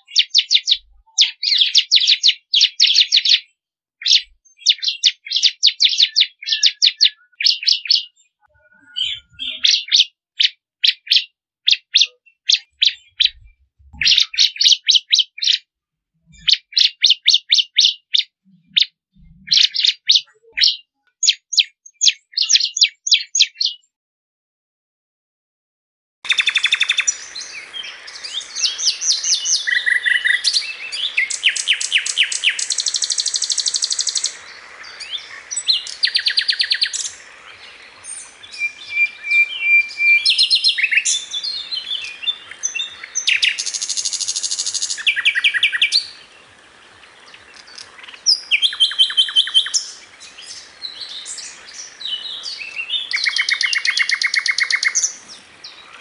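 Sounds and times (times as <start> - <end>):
songbirds trilling and chattering: 0.0 - 23.9, 26.3 - 56.0.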